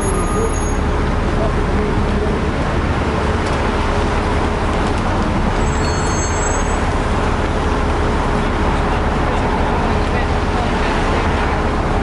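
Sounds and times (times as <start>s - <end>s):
bus engine rumble: 0.0s - 12.0s
road traffic: 0.0s - 12.0s.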